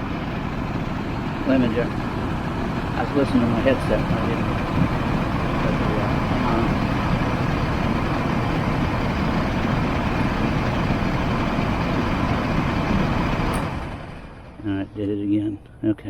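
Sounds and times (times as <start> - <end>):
blower fan rushing: 0.0 - 15.9.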